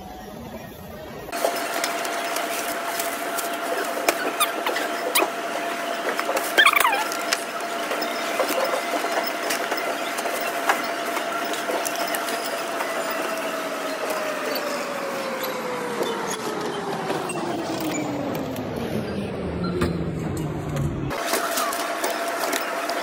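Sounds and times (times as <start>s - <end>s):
conveyor belt motor whining: 0.0s - 23.0s.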